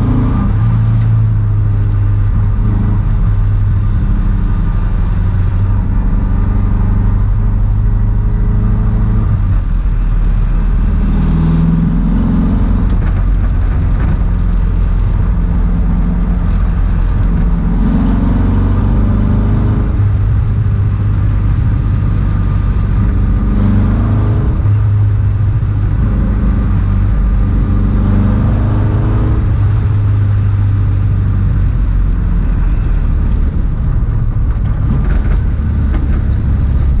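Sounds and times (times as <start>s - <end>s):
car engine accelerating: 0.0s - 37.0s
road noise: 0.0s - 37.0s.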